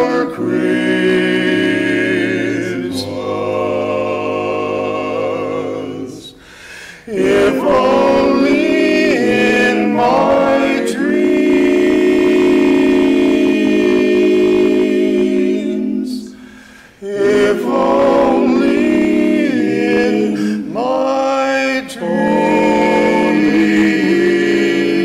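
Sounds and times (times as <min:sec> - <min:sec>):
male vocal quartet singing: 0:00.0 - 0:25.0.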